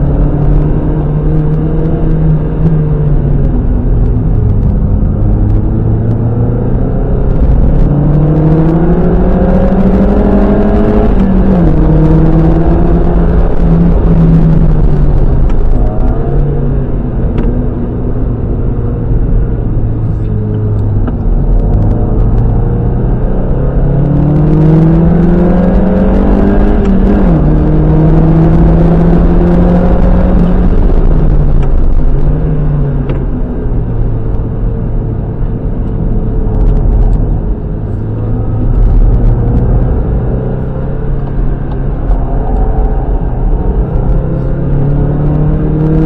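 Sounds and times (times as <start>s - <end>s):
car engine revving under load: 0.0s - 46.0s.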